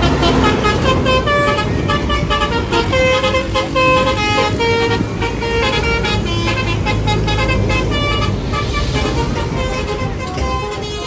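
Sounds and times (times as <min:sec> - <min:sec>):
low engine rumble: 0:00.0 - 0:11.0
musical bus horn tune: 0:00.0 - 0:11.0.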